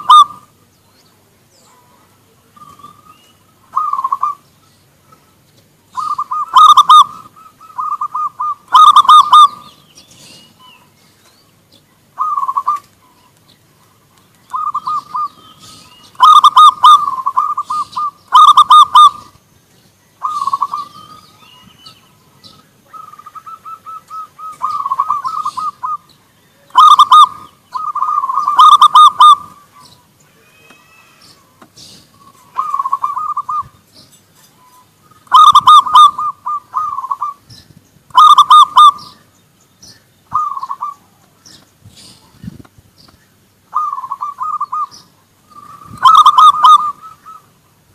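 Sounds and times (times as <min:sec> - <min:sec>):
doves cooing: 0:00.0 - 0:00.7, 0:01.5 - 0:19.5, 0:20.1 - 0:42.7, 0:43.6 - 0:47.9.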